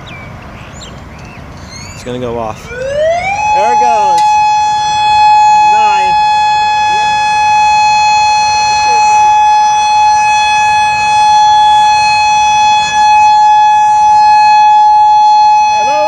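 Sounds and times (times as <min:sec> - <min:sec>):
warning siren steady tone: 0:02.6 - 0:16.0.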